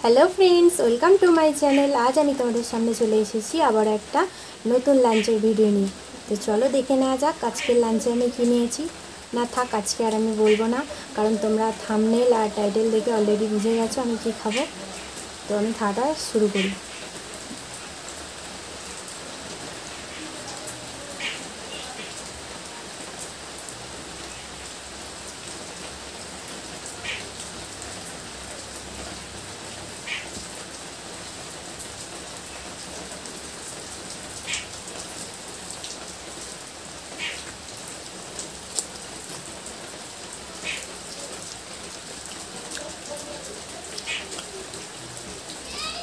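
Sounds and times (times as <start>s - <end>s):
steady rain: 0.0s - 46.0s.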